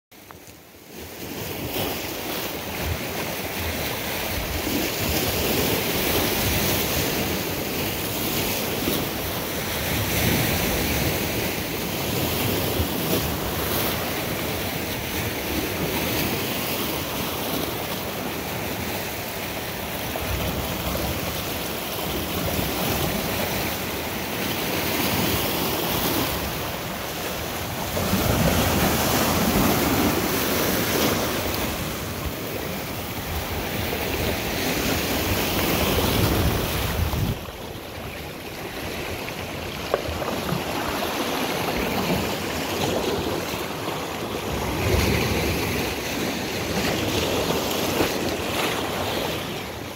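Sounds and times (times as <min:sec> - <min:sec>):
waves breaking on rocky shore: 0:00.2 - 0:49.9.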